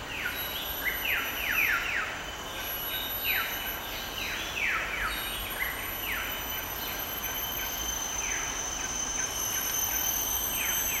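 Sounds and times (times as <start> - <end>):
buzzy falling insect calls: 0.0 - 11.0
high-pitched insect drone: 0.0 - 11.0.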